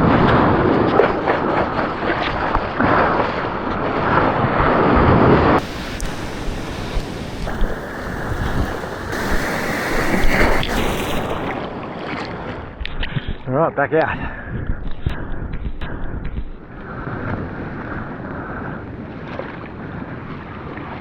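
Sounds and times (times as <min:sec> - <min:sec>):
ocean water sloshing and splashing: 0:00.0 - 0:13.4, 0:16.8 - 0:21.0
wind noise on microphone: 0:00.0 - 0:13.5, 0:14.1 - 0:21.0.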